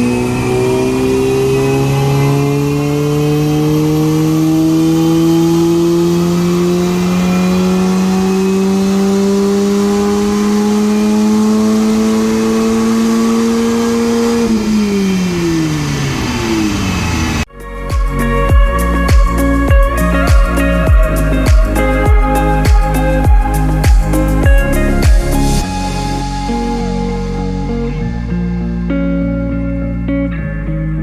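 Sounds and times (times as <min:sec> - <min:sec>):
supercharged engine revving: 0:00.0 - 0:31.0.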